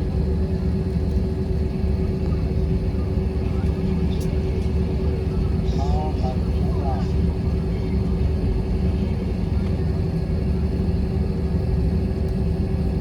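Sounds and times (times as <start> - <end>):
airliner cabin engine rumble: 0.0 - 13.0
constant hum: 0.0 - 13.0.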